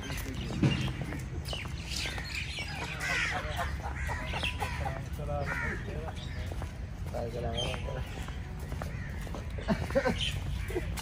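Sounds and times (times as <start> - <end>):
birds chirping and calling: 0.0 - 11.0.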